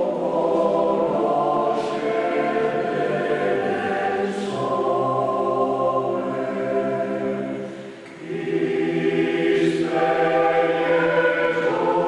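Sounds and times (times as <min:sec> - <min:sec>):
male choir singing unaccompanied: 0:00.0 - 0:12.0.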